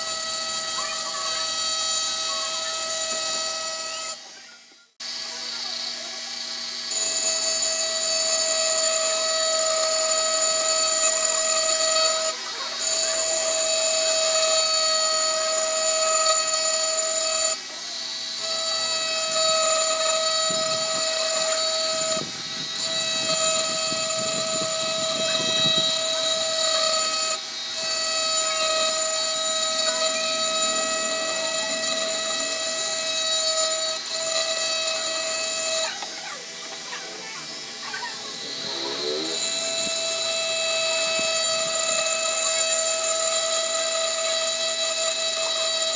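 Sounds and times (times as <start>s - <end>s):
bit grinding on glass: 0.0s - 4.2s, 5.1s - 45.9s
engraving pen whining: 0.0s - 45.9s.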